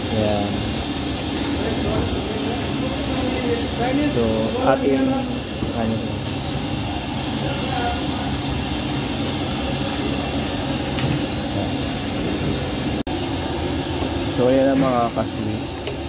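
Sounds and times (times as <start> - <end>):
mechanical hum and rumble: 0.0 - 16.0.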